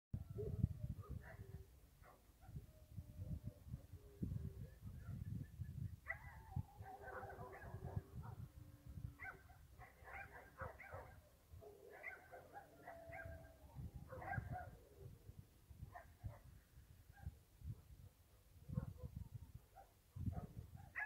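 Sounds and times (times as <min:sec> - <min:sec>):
distant dogs yipping and barking: 0:00.2 - 0:21.0.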